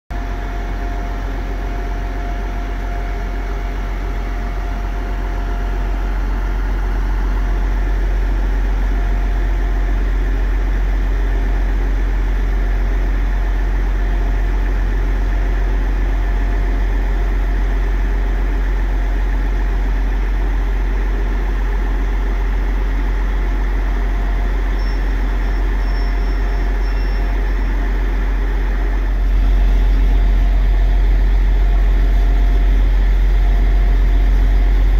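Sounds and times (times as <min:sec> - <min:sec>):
diesel engines idling: 0:00.2 - 0:34.9.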